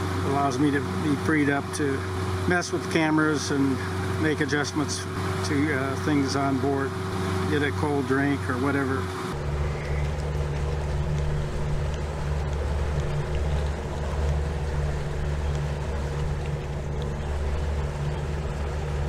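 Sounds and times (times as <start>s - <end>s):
hiss of water and wind: 0.0s - 19.0s
outboard motor droning: 0.0s - 19.0s.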